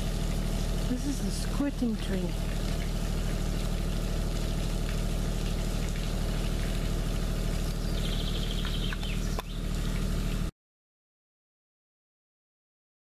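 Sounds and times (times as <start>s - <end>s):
low mechanical drone: 0.0s - 10.5s.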